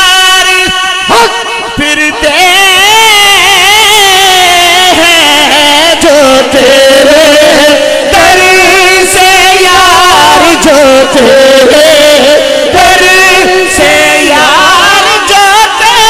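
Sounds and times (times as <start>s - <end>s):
man singing through a microphone: 0.0s - 16.0s.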